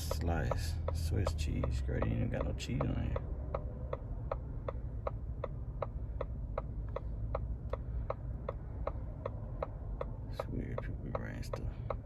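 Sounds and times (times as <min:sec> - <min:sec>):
low cabin hum: 0:00.0 - 0:12.0
turn signal ticking: 0:00.0 - 0:12.0.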